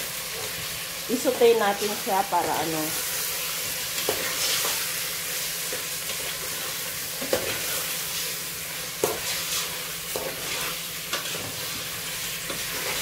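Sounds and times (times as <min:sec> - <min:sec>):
chicken sizzling in a pot: 0:00.0 - 0:13.0.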